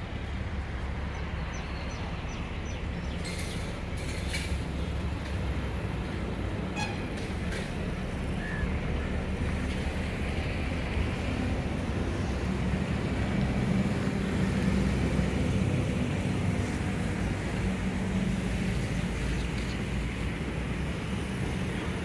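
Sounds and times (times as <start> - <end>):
rail car engine drone: 0.0 - 22.0.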